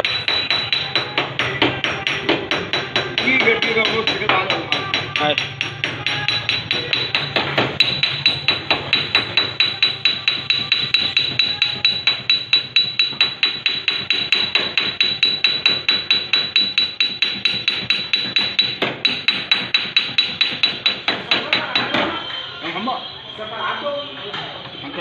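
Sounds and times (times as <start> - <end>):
hammering on sheet metal: 0.0 - 22.2.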